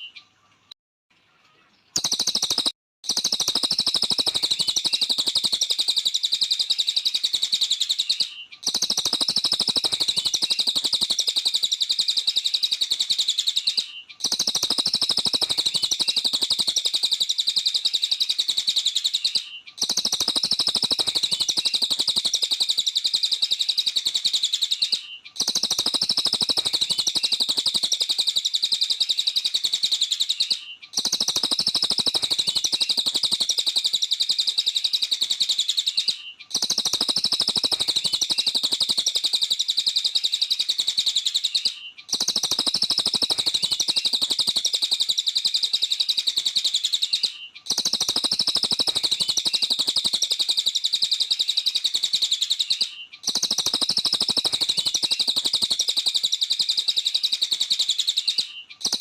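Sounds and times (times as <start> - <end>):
bird chattering trill: 2.0 - 59.0.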